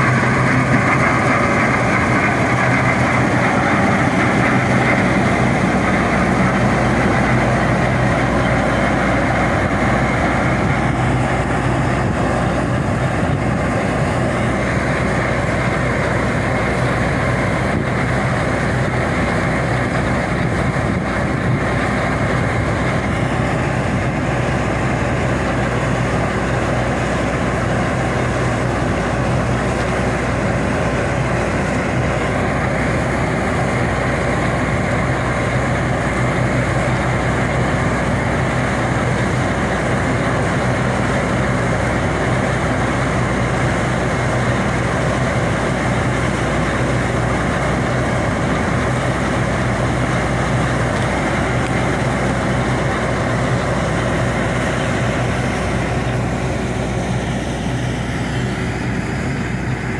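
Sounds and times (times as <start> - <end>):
combine harvester diesel engine: 0.0 - 59.9
threshing machinery running: 0.0 - 59.9.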